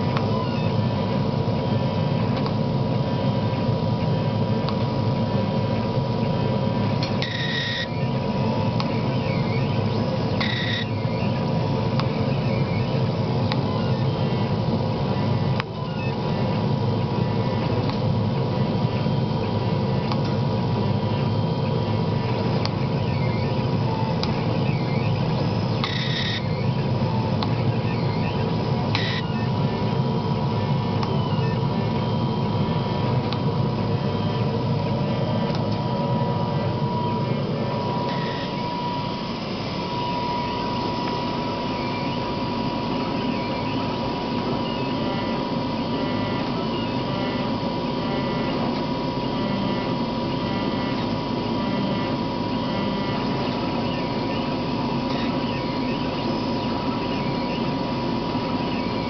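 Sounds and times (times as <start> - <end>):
laser cutter whine: 0.0 - 59.0
low machine hum: 0.0 - 59.0.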